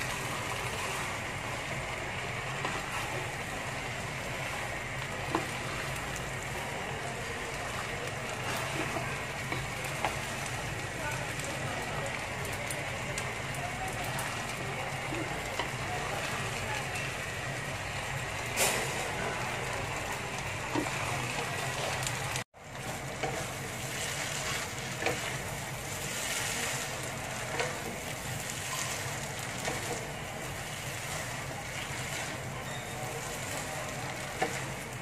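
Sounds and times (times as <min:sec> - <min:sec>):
noodles sizzling in a wok: 0:00.0 - 0:35.0.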